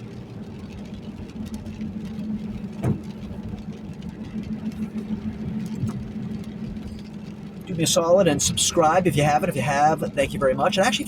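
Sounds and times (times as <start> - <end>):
car engine and road hum: 0.0 - 11.0.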